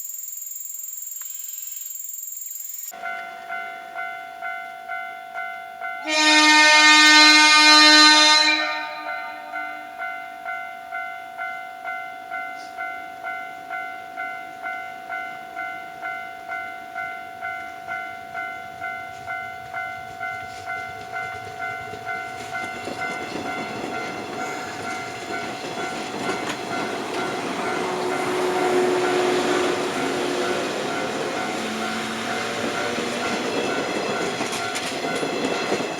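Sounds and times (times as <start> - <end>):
level-crossing warning bell: 2.9 - 35.9
train rumble and wheel noise: 6.0 - 35.9.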